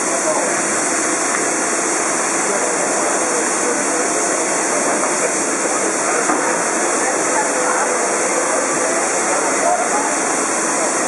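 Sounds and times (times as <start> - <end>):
steam hissing from locomotive: 0.0 - 11.0.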